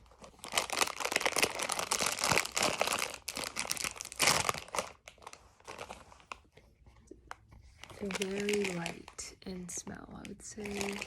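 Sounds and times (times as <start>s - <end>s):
crisp packet crinkling: 0.0s - 6.5s, 7.8s - 11.0s.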